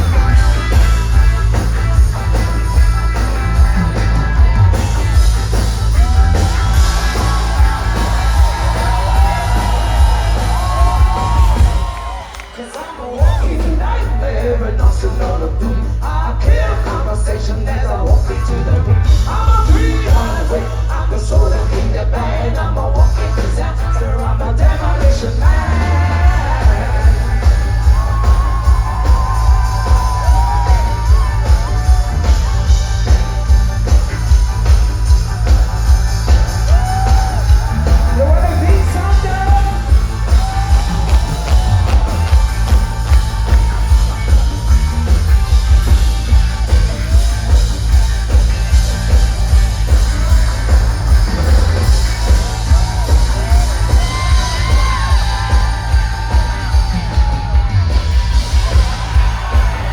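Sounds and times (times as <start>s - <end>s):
live band with pulsing bass beat: 0.0s - 59.9s.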